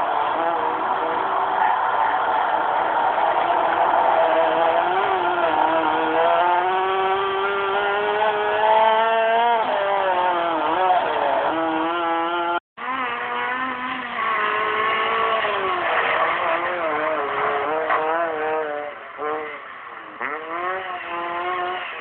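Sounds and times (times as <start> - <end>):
rally car engine accelerating: 0.0 - 22.0.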